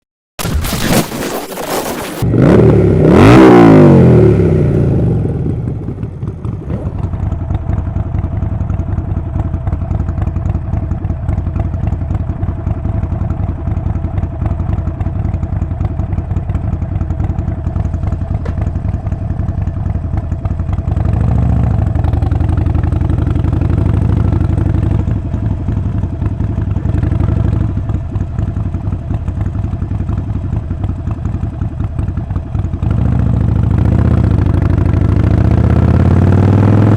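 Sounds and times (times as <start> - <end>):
motorcycle engine revving: 2.2 - 36.9
motorcycle engine idling: 4.1 - 36.1.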